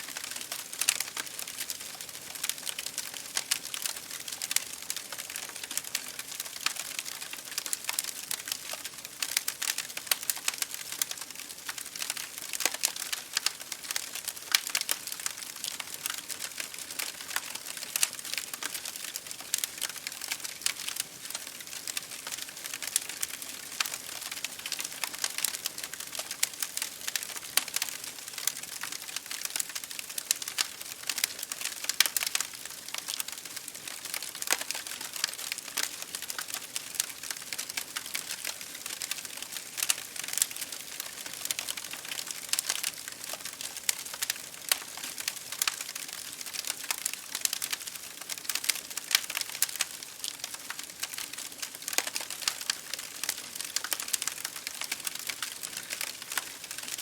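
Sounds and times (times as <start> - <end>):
rain pattering on a window: 0.0 - 57.0
wood fire crackling: 0.0 - 57.0.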